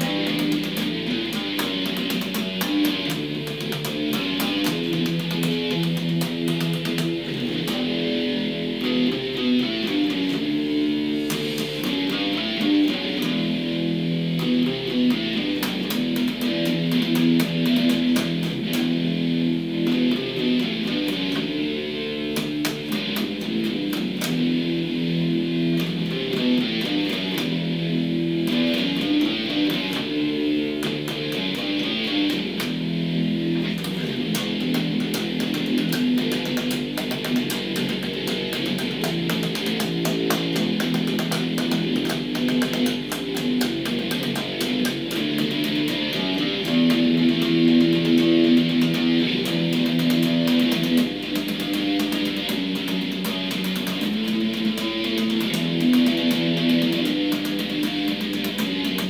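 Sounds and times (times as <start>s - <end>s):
electric bass guitar riff: 0.0s - 59.0s.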